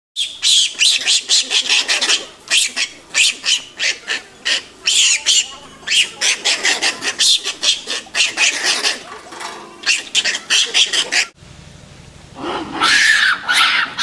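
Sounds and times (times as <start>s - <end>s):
monkeys screaming shrill calls: 0.2s - 9.2s, 9.8s - 11.4s, 12.4s - 14.0s.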